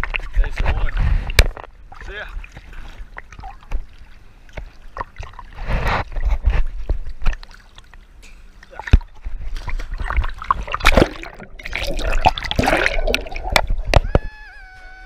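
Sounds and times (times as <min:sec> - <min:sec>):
sea water sloshing and splashing: 0:00.0 - 0:14.3
low rumble of water on housing: 0:00.0 - 0:14.8.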